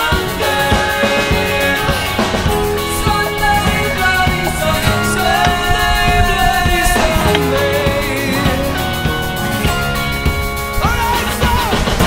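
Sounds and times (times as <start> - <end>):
person singing: 0.0 - 12.0
rock music: 0.0 - 12.0
steady drum beat: 0.0 - 12.0.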